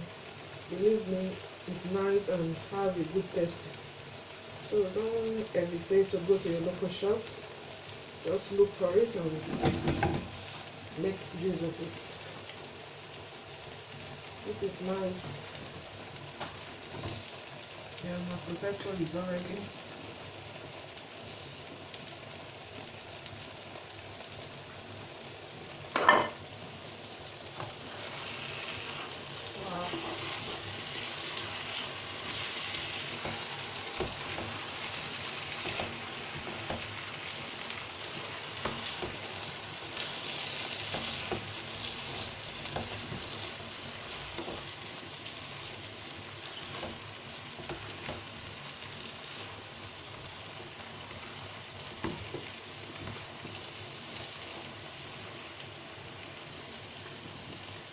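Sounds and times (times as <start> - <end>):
stew sizzling in oil: 0.0 - 57.9.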